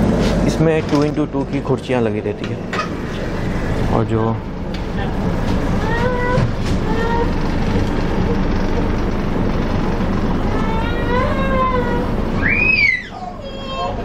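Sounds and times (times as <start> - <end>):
train coach hum: 0.0 - 14.0
passengers' voices: 0.2 - 14.0.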